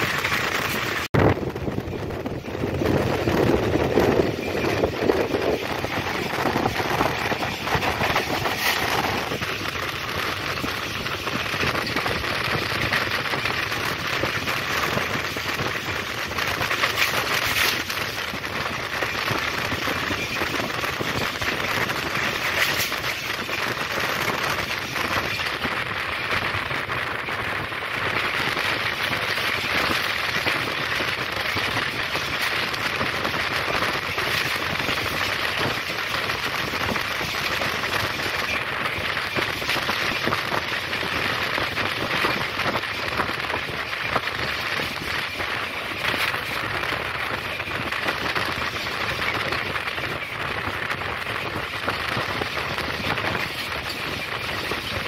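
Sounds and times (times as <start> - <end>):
train wheels rattling and clattering: 0.0 - 55.0.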